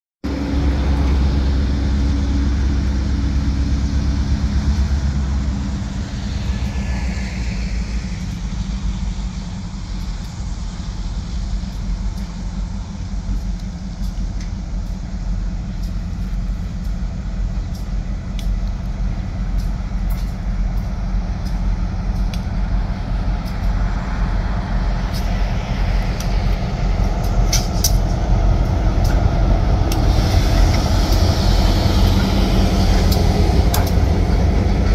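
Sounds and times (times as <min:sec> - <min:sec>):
diesel locomotive rumble: 0:00.2 - 0:34.9.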